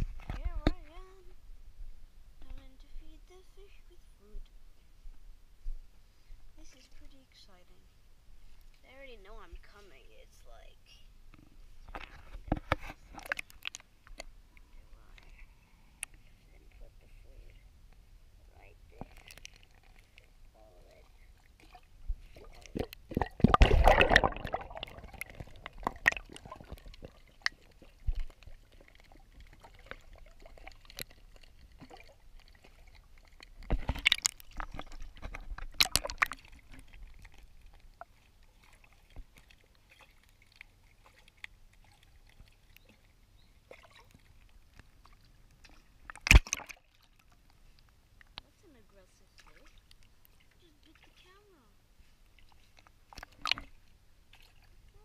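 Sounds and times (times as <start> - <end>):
water sloshing and splashing: 0.0 - 1.4, 11.3 - 17.8, 18.5 - 55.0.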